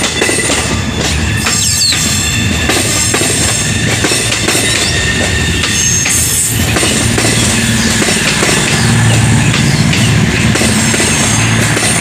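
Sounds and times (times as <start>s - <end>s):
high wheel squeal: 0.0s - 12.0s
train rumble: 0.0s - 12.0s
train wheels knocking over rail joints: 0.0s - 12.0s.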